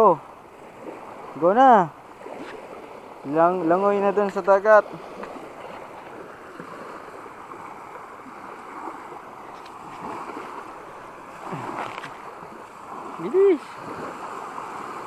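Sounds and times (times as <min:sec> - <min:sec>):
waves washing onto sandy shore: 0:00.0 - 0:15.0.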